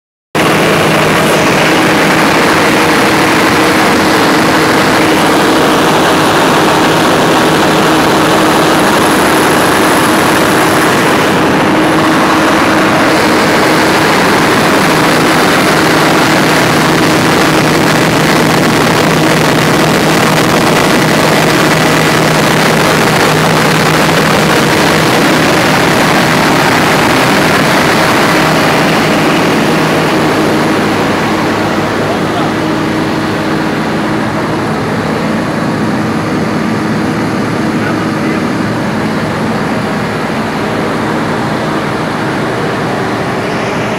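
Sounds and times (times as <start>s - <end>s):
diesel generator engine running: 0.4s - 43.9s.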